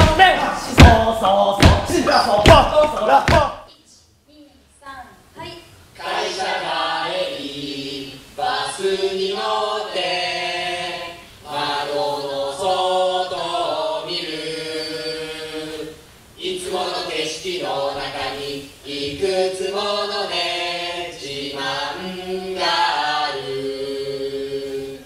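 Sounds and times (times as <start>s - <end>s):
voices singing a cappella: 0.0s - 3.7s, 5.9s - 25.0s.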